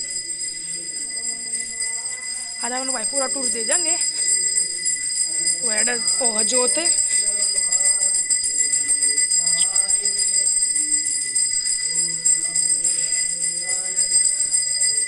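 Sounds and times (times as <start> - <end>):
faint voices: 0.0 - 14.8
bells jingling: 0.0 - 15.0.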